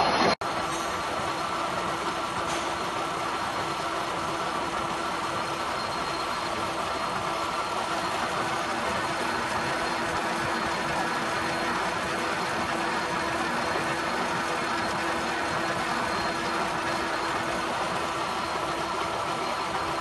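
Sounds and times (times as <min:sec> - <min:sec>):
gear cutting machine humming: 0:00.0 - 0:20.0.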